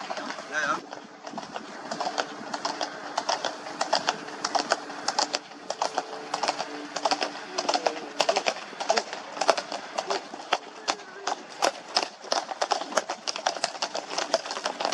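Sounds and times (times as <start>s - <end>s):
horse hoofbeats on hard road: 0.0s - 14.9s.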